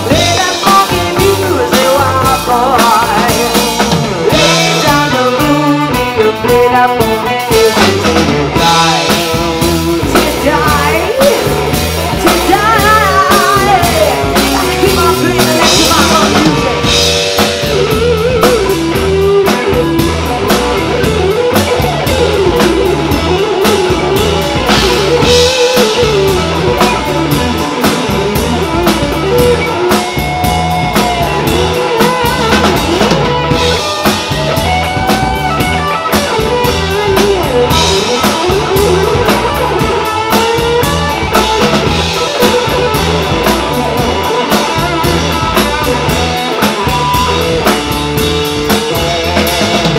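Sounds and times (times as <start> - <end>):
drum kit beat: 0.0 - 49.9
electric bass: 0.0 - 49.9
electric guitar: 0.0 - 49.9.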